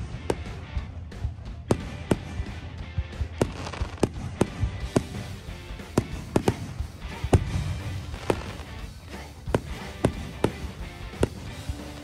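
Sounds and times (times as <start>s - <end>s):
fireworks bangs: 0.0s - 12.0s
music playing: 0.0s - 12.0s.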